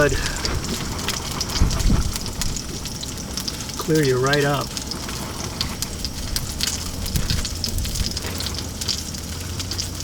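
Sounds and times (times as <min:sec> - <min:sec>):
camp stove rumble: 0:00.0 - 0:10.0
fish sizzling in a pan: 0:00.0 - 0:10.0.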